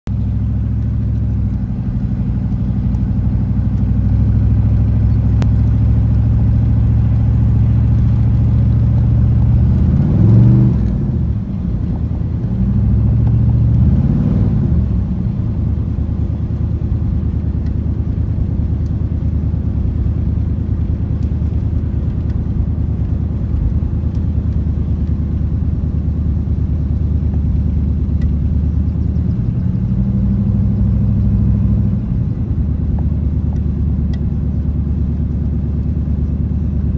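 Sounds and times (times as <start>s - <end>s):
car engine revving inside cabin: 0.1s - 36.9s.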